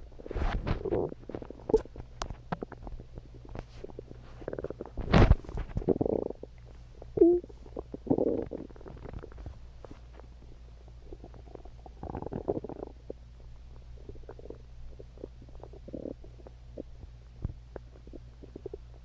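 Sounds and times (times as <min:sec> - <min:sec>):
stomach growling and gurgling: 0:00.1 - 0:10.2, 0:11.0 - 0:19.0.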